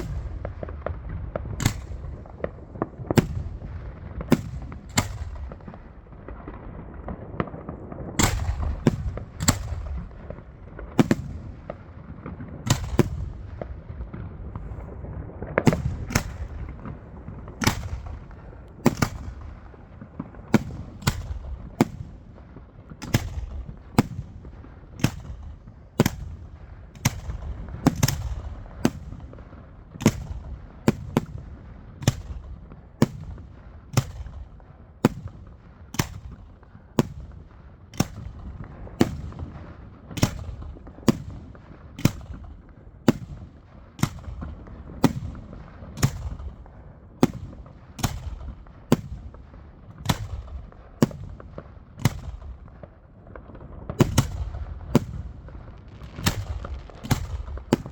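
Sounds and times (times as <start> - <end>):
fireworks banging: 0.0 - 34.5, 35.1 - 57.9.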